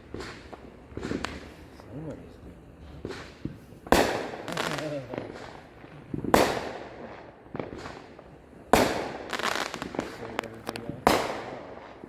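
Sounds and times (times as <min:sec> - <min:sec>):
firework pops and crackles: 0:00.0 - 0:12.0
loud firework bangs: 0:00.0 - 0:12.0.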